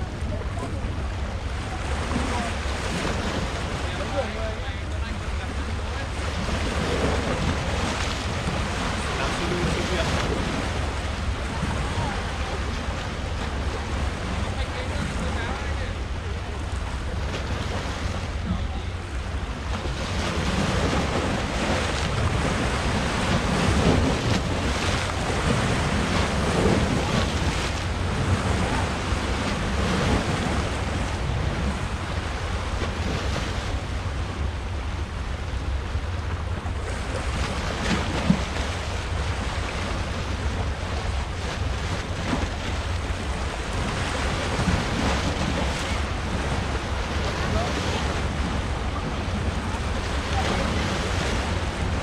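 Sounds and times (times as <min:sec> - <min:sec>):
sea waves breaking on rocks: 0:00.0 - 0:52.0.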